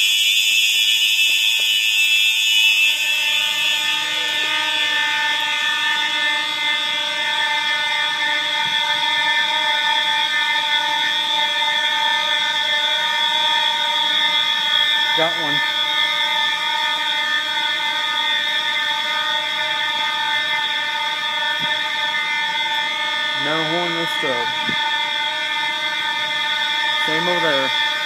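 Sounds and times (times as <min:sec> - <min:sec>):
fire alarm horn steady tone: 0:00.0 - 0:28.0.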